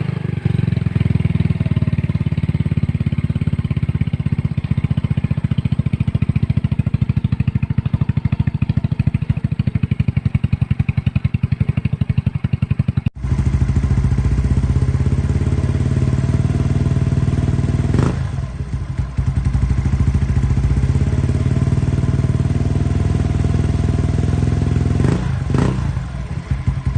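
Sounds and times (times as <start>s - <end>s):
scooter engine idling: 0.0s - 26.9s.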